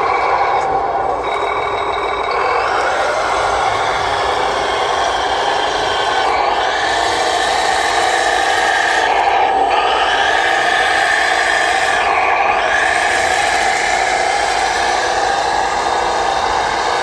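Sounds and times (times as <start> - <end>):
machine engine whirring: 0.0 - 17.0.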